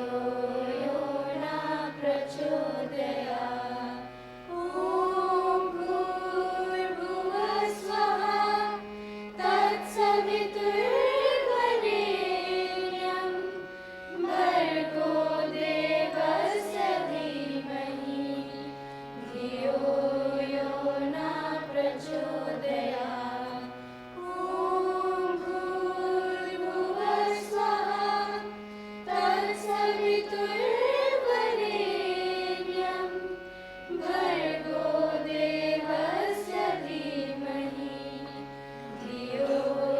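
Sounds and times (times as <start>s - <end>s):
person singing ornamented melody: 0.0s - 39.9s
sustained accompanying notes: 0.0s - 39.9s.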